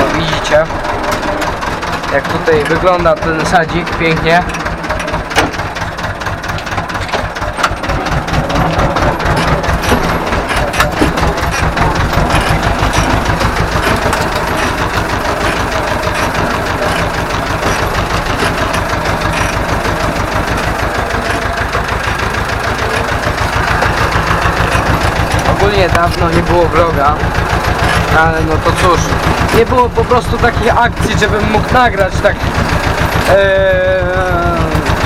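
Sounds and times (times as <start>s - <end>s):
sharp knocks and rattles: 0.0s - 35.0s
tractor diesel engine throbbing: 0.0s - 35.0s.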